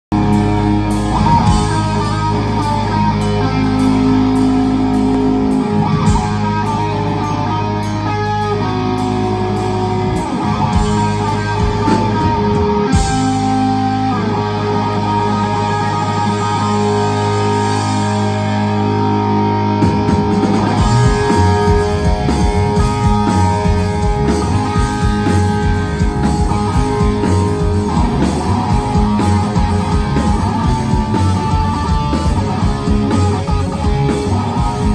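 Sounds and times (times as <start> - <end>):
bass guitar: 0.0 - 34.9
distorted electric guitar: 0.1 - 34.9
drums beating: 0.2 - 18.6, 19.7 - 34.9.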